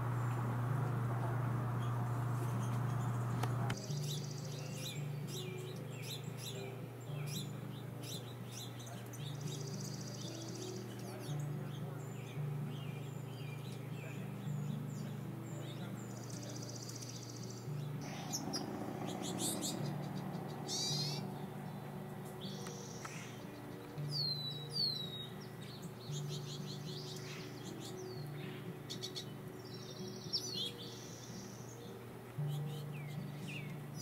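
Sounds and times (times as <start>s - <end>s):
soft background music: 0.0s - 34.0s
songbirds chirping: 0.0s - 34.0s.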